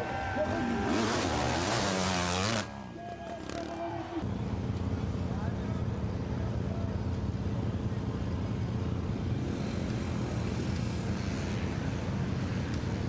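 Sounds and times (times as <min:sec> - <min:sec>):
motocross bike engines: 0:00.0 - 0:13.0.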